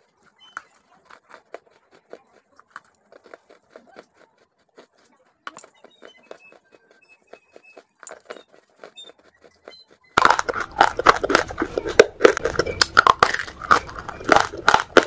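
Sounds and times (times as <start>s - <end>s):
crunching and chewing clay: 0.0s - 15.0s.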